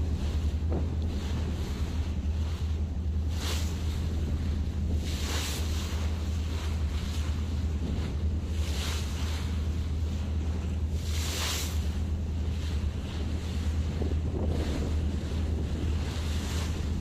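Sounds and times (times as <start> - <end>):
sea waves washing: 0.0 - 17.0
steady low hum: 0.0 - 17.0
wind on microphone: 0.0 - 17.0.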